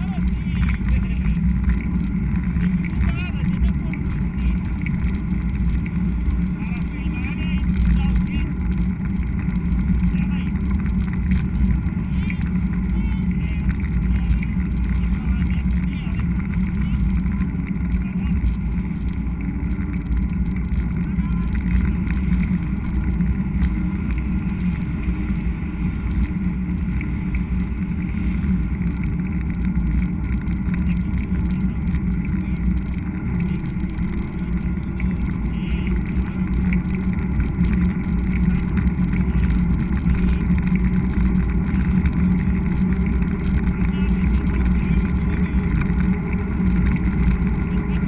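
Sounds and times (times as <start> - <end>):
mountain bike riding noise: 0.0 - 48.0
wind rumble: 0.0 - 48.0.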